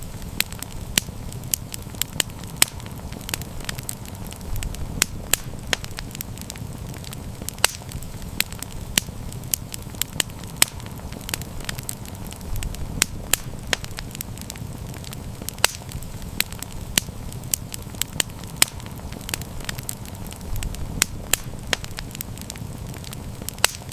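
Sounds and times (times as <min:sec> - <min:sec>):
low rumble of flames: 0:00.0 - 0:23.9
wood fire crackling and popping: 0:00.0 - 0:23.9.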